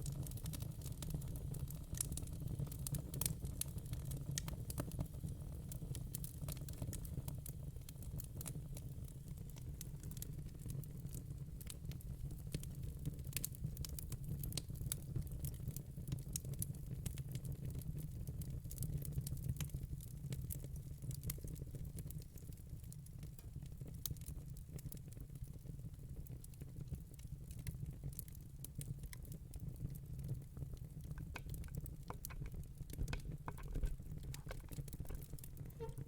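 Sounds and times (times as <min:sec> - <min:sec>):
fire crackling and popping: 0:00.0 - 0:36.0.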